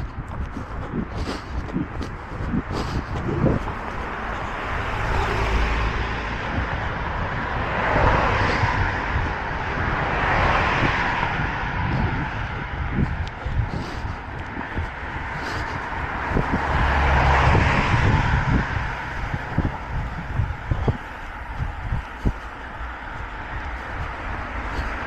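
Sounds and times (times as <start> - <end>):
cars passing close by: 0.0 - 25.0
wind rumble on microphone: 0.0 - 25.0.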